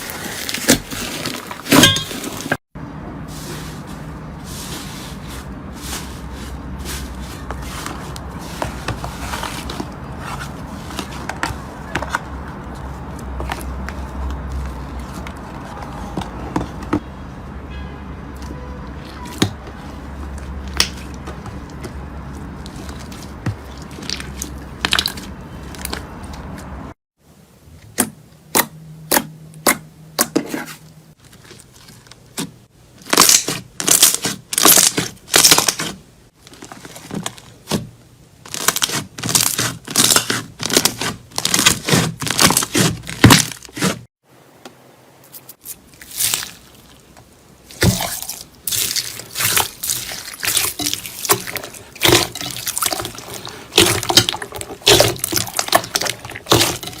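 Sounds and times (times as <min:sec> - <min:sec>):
slime squelching: 0:03.2 - 0:17.0, 0:18.4 - 0:26.9, 0:28.0 - 0:44.1, 0:45.4 - 0:57.0.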